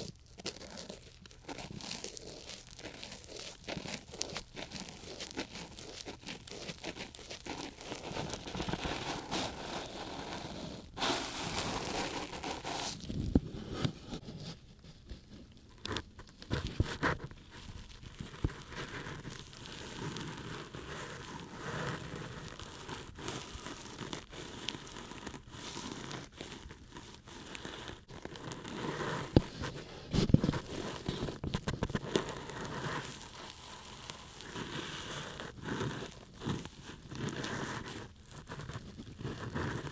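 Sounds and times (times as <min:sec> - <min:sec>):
ear pick scratching in ear: 0:00.0 - 0:39.9.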